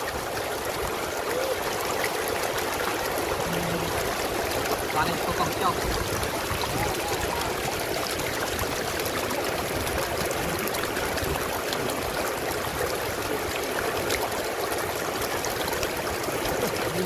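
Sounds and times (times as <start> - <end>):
water trickling over stones: 0.0 - 17.0.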